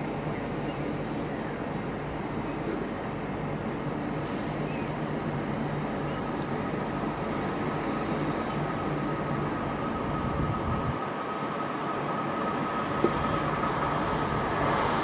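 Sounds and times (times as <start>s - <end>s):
train rumbling past: 1.5s - 15.0s.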